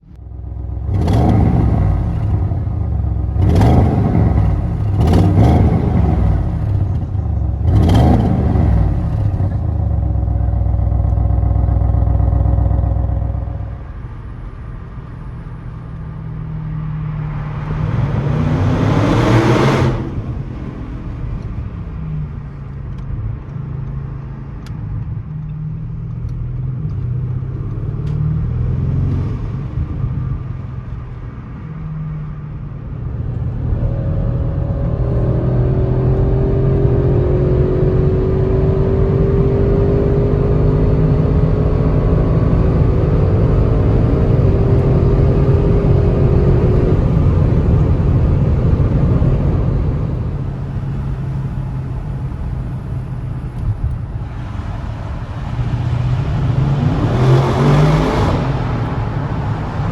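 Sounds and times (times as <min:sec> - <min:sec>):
car engine accelerating: 0:00.0 - 0:59.9
car engine revving: 0:00.2 - 0:23.1, 0:33.4 - 0:59.9.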